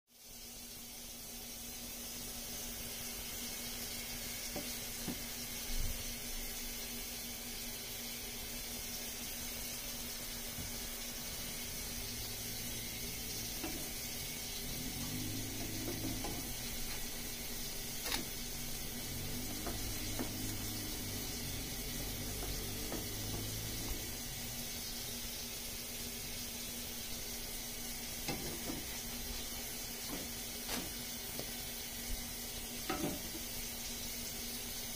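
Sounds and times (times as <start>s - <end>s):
pancake sizzling in a pan: 0.1s - 34.9s.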